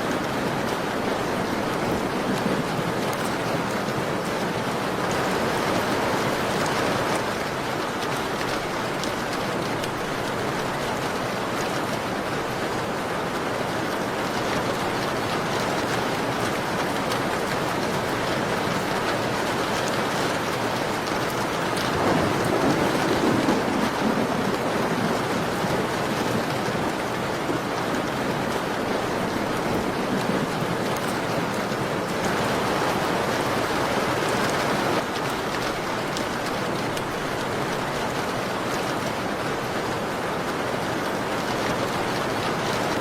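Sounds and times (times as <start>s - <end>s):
rain pattering on a window: 0.0s - 43.0s.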